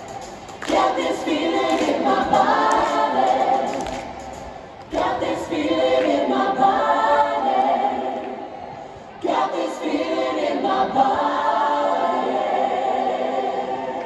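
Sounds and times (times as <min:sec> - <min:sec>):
people singing a pop song: 0:00.0 - 0:14.0.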